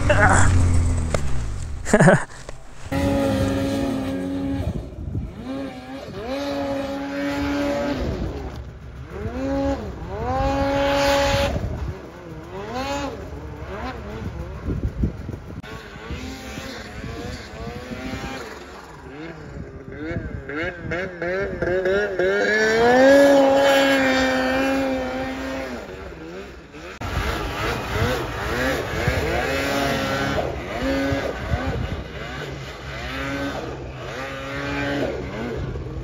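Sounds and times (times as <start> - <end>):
snowmobile engine revving: 0.0 - 36.0.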